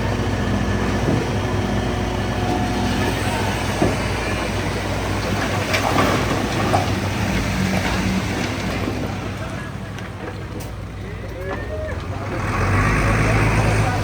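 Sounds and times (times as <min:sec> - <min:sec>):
heavy diesel machinery running: 0:00.0 - 0:14.0
steel tracks clanking and squeaking: 0:00.8 - 0:12.6.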